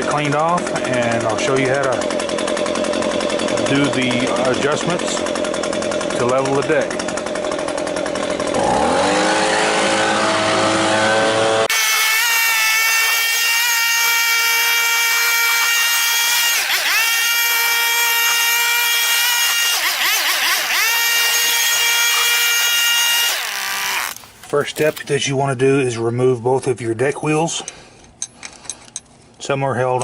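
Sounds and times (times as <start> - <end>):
gas-powered blower running: 0.0 - 25.0.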